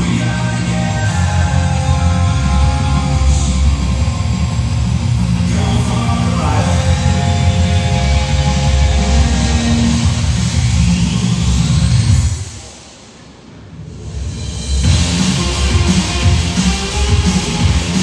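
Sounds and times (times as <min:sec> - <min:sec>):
rock music with electric guitar: 0:00.0 - 0:12.3, 0:14.8 - 0:18.0.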